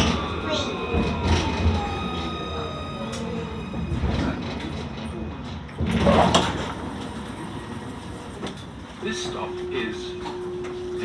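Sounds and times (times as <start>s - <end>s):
tram running noise: 0.0s - 11.0s.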